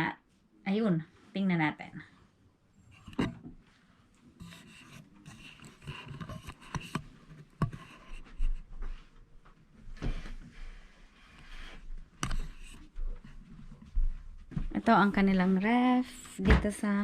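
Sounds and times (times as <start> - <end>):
rubbing and scraping handling noise: 2.8 - 16.4.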